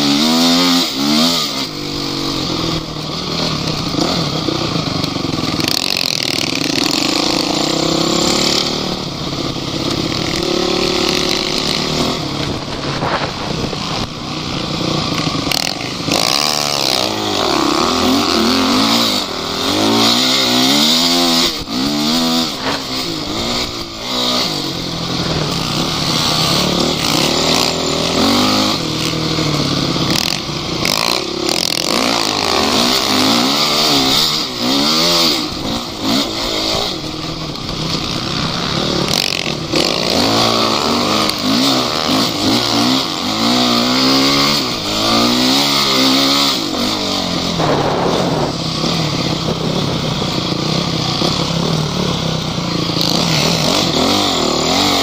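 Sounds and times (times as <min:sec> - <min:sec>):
off-road vehicle engines revving: 0:00.0 - 0:55.0.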